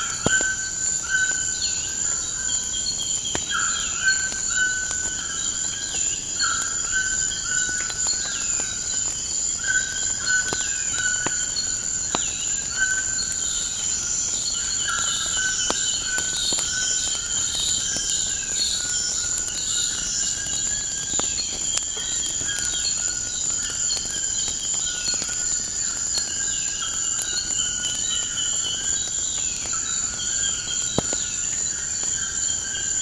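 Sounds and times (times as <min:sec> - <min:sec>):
crickets chirping: 0:00.0 - 0:33.0
wood fire crackling pops: 0:00.0 - 0:33.0.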